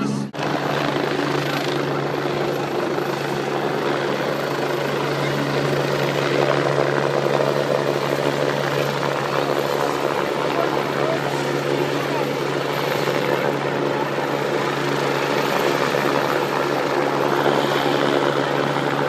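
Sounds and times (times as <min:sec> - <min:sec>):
aircraft engine running: 0:00.0 - 0:19.0.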